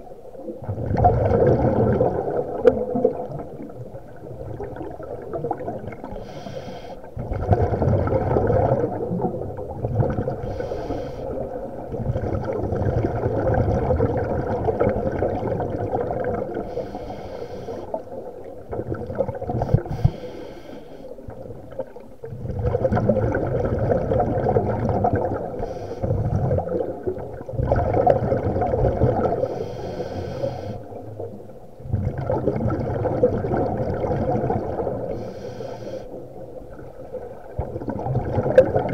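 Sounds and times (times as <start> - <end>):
muffled underwater water noise: 0.0 - 38.9.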